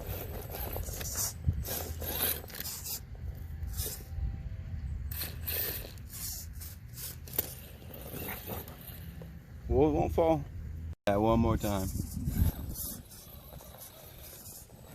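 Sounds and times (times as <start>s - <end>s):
tyres and chassis scraping: 0.0s - 11.0s, 11.6s - 14.9s.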